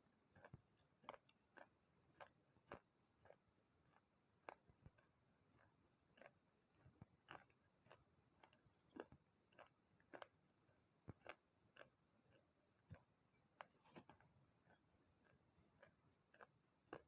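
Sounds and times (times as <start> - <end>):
crunching of clay being chewed: 0.3 - 17.0.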